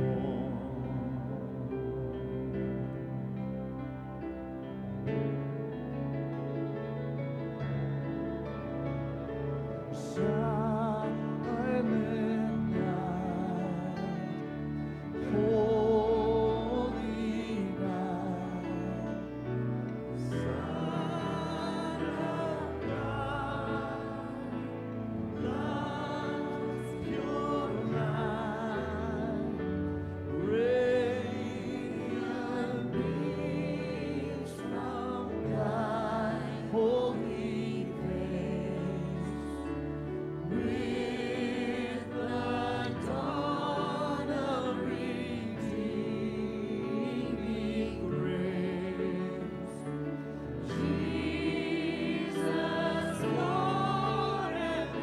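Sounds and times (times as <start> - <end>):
voices singing with vibrato: 9.8 - 55.0.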